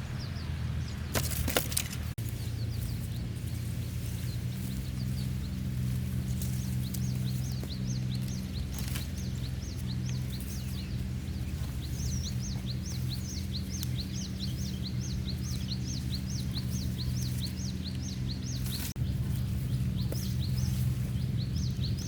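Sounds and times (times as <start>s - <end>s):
bird chirping: 0.0s - 22.0s
low hum: 0.0s - 22.0s.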